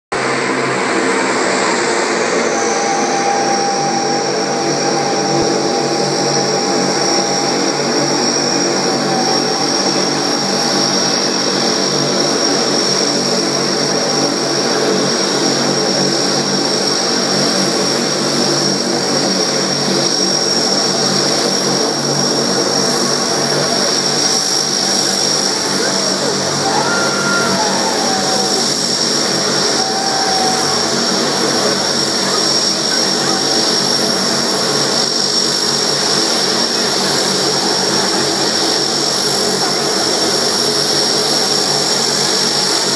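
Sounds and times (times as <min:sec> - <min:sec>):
high turbine whine: 0:00.1 - 0:42.9
propeller drone: 0:00.1 - 0:42.9.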